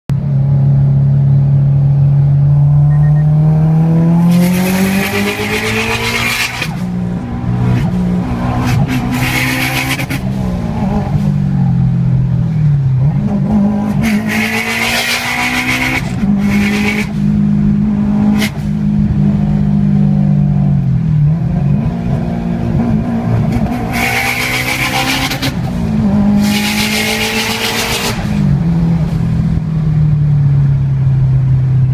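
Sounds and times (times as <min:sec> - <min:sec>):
car engine revving: 0:00.2 - 0:31.9.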